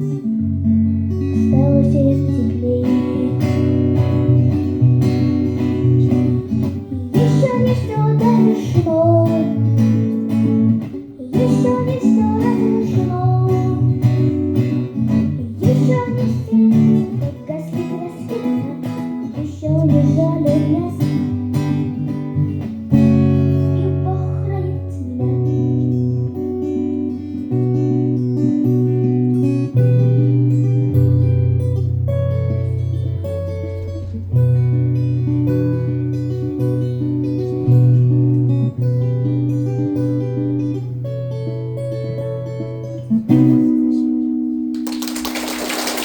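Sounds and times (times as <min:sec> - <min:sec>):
acoustic guitar playing: 0:00.0 - 0:46.0.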